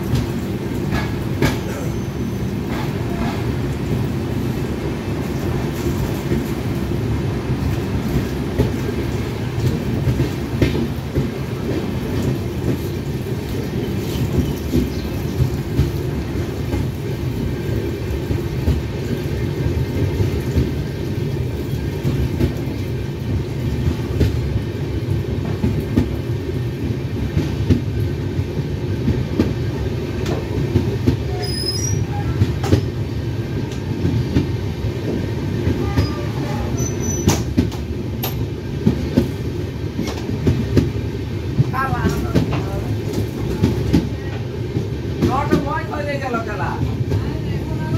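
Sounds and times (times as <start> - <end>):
train wheels rumbling on track: 0.0 - 47.9.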